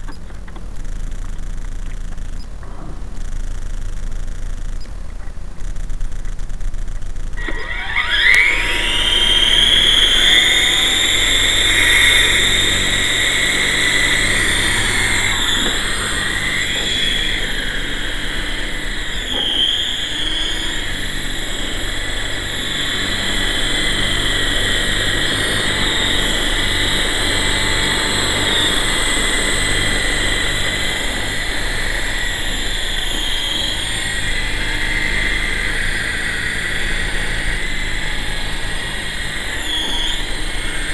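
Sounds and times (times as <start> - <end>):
rc helicopter whining: 0.0 - 40.9.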